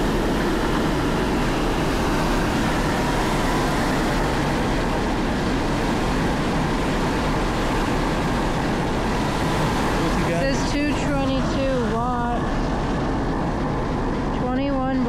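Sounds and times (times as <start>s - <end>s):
whitewater rushing: 0.0s - 12.6s.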